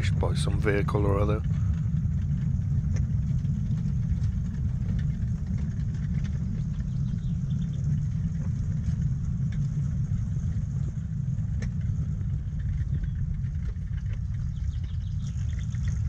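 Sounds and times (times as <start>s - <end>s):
miniature train rumbling on track: 0.0s - 16.0s.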